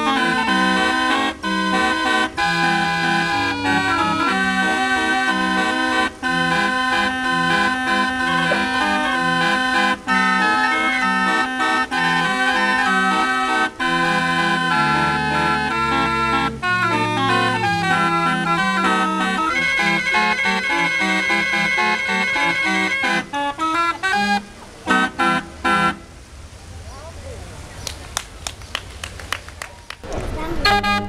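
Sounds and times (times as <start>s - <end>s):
barrel organ playing a tune: 0.0s - 26.1s.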